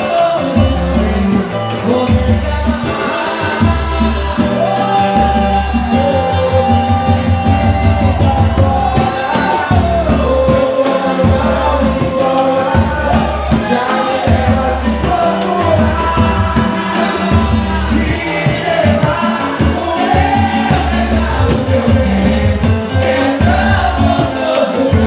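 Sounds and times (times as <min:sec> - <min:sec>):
bass and drum beat: 0:00.0 - 0:25.0
person singing: 0:00.0 - 0:25.0.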